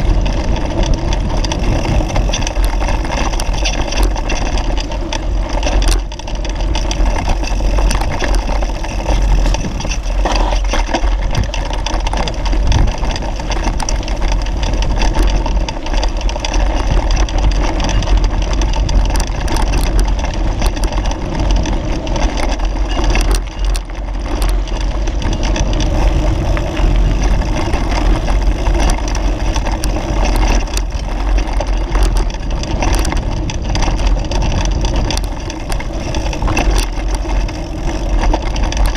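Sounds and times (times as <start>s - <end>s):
bicycle tyre and frame noise: 0.0s - 38.9s
wind rushing over microphone: 0.0s - 38.9s.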